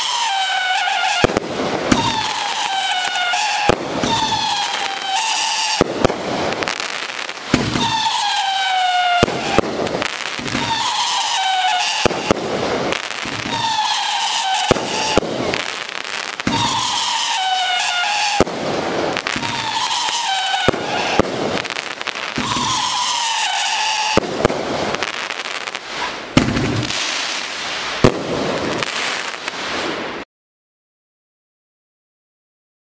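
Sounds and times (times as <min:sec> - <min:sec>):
firework bangs: 0:00.0 - 0:30.2
firework crackle: 0:00.0 - 0:30.3
firework falling whistles: 0:00.0 - 0:30.3.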